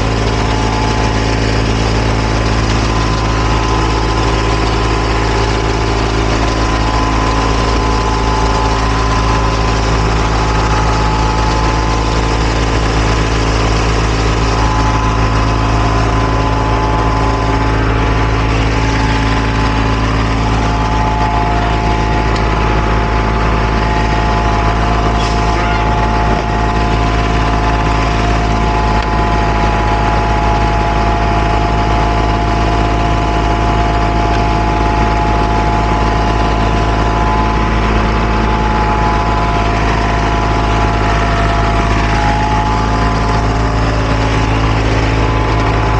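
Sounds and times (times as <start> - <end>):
diesel engine droning: 0.0 - 45.9
steady whining tones: 0.0 - 45.9.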